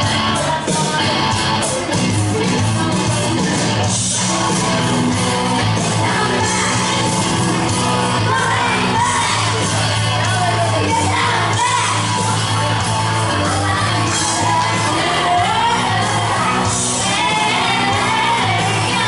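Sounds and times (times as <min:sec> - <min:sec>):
background song with singing: 0:00.0 - 0:19.0.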